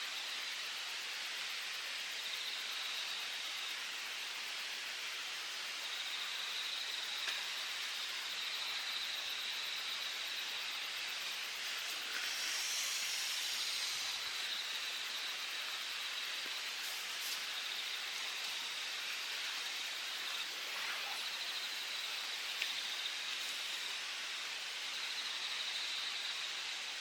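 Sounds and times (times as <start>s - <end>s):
high-pitched insect trill: 0.0s - 27.0s
insects trilling: 0.0s - 27.0s.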